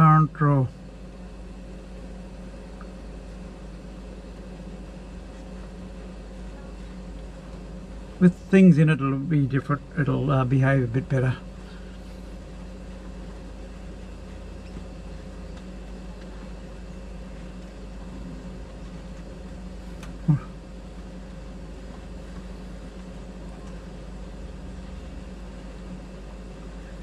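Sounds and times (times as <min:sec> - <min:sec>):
fridge compressor humming: 0:00.0 - 0:27.0.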